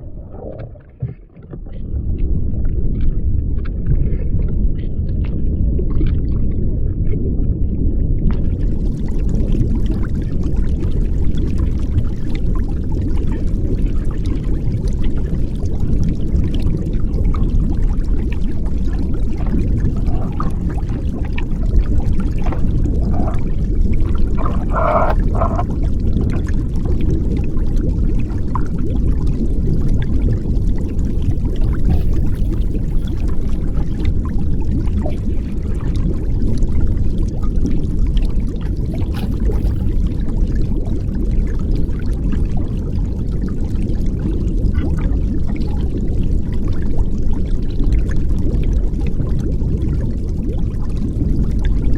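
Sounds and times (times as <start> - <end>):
underwater rush of water: 8.2 - 51.9.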